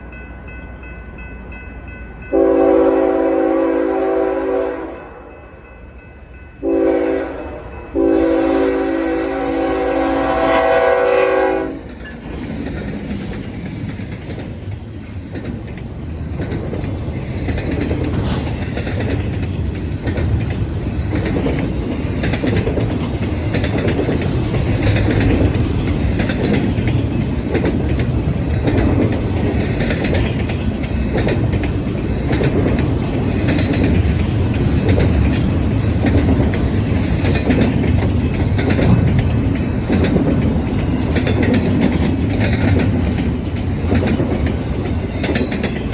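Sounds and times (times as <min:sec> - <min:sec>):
freight train rolling past: 0:00.0 - 0:45.9
train wheels clicking over rail joints: 0:08.0 - 0:45.9.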